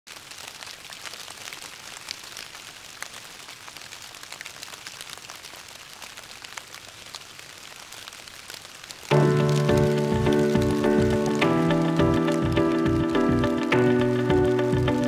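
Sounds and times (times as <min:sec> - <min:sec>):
rain on paving stones: 0:00.1 - 0:15.0.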